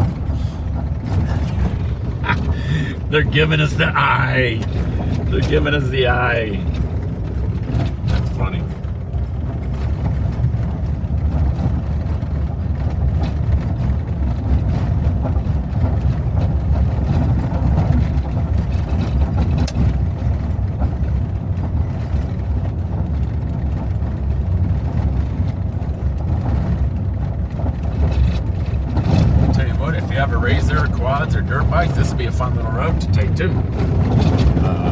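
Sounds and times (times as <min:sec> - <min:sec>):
vehicle driving on gravel road: 0:00.0 - 0:34.9.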